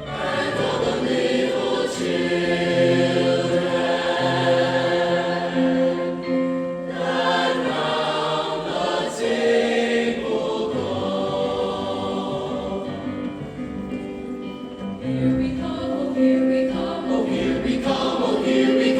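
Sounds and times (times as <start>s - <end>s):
choir singing: 0.0s - 13.7s, 15.0s - 18.9s.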